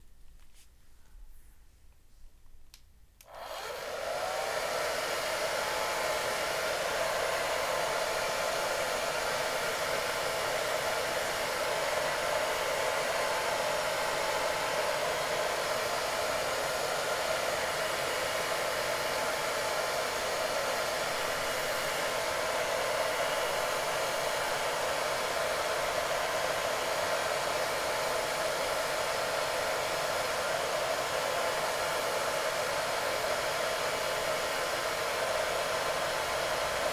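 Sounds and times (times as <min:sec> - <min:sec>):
hair dryer running: 0:03.2 - 0:36.9.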